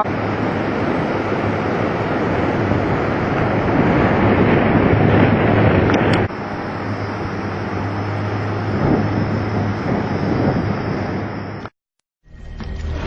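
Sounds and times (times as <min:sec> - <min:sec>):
crashing surf: 0:00.0 - 0:11.4
strong wind buffeting microphone: 0:00.0 - 0:11.7.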